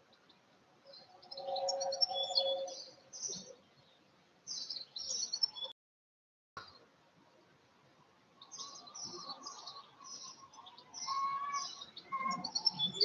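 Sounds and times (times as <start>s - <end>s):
songbirds chirping: 0.0s - 5.8s, 6.6s - 13.0s.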